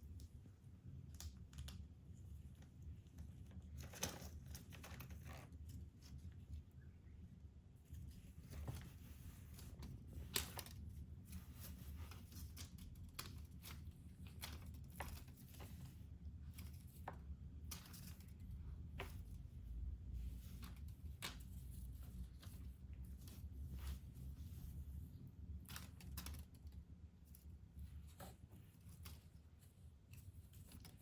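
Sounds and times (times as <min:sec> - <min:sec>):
kitten gnawing clicks and rustles: 0:00.1 - 0:06.6, 0:07.8 - 0:31.0.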